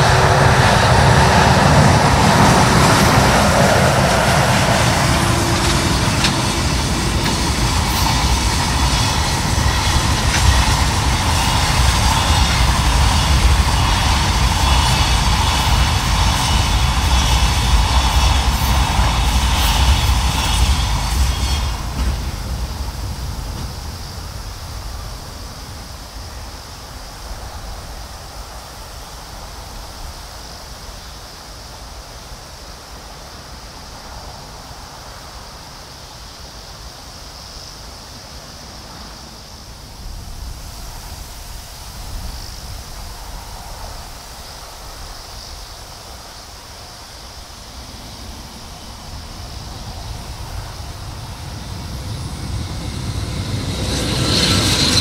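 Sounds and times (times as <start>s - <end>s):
insects buzzing: 0.0s - 55.0s
train wheels rumbling on rails: 0.0s - 55.0s.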